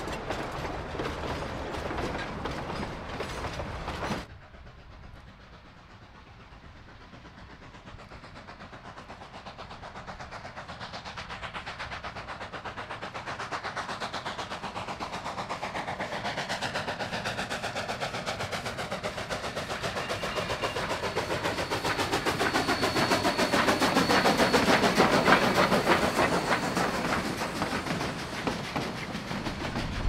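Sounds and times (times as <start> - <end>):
steam locomotive chuffing: 0.0 - 30.0
train wheels clattering on rails: 0.0 - 30.0.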